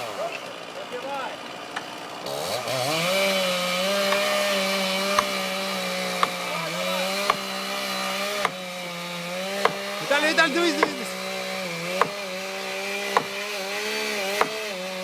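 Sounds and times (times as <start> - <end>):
chainsaw revving and cutting: 0.0 - 15.0.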